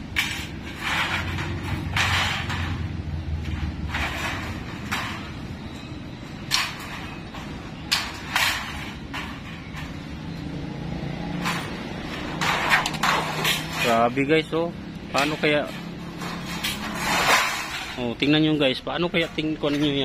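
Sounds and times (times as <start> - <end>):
sheet metal rattling: 0.0 - 20.0.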